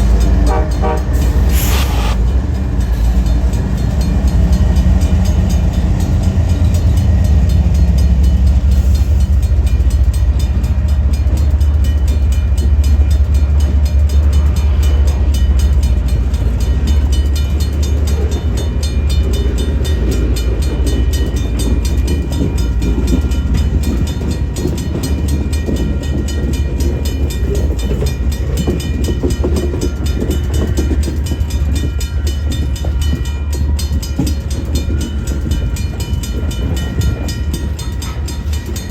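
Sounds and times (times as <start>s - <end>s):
freight train passing: 0.0s - 38.9s.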